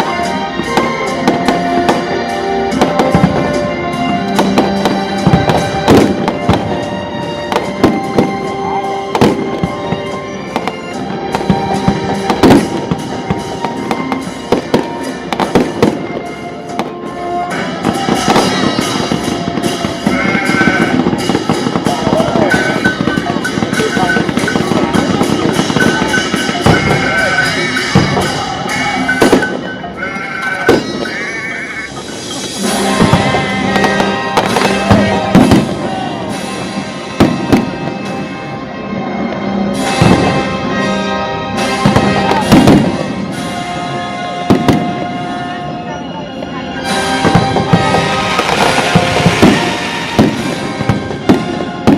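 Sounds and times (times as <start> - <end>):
fireworks bangs and crackles: 0.0 - 51.9
music playing: 0.0 - 51.9.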